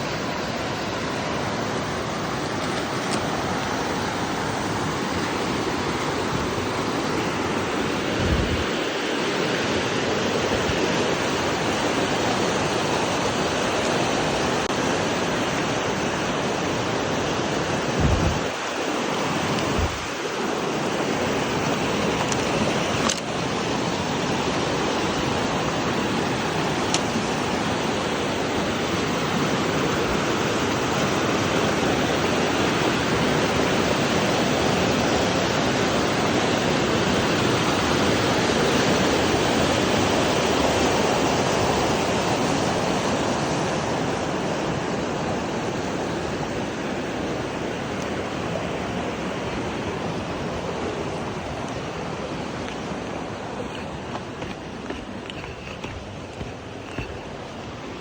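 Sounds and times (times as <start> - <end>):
rushing creek water: 0.0 - 58.0.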